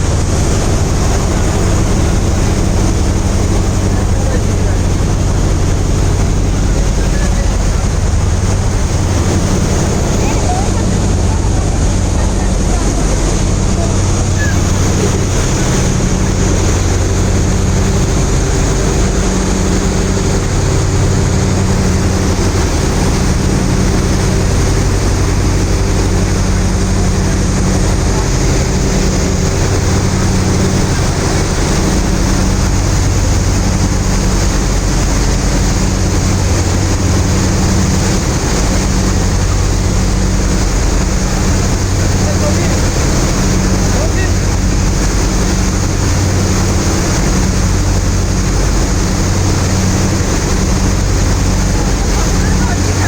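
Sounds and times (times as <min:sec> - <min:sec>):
low engine hum: 0:00.0 - 0:53.0
wind and water rushing: 0:00.0 - 0:53.0.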